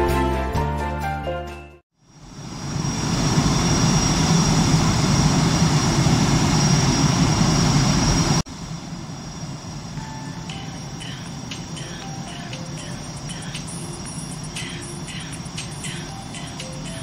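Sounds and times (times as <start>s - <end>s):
cabin engine drone: 2.0s - 17.0s
jet engine noise: 2.0s - 17.0s.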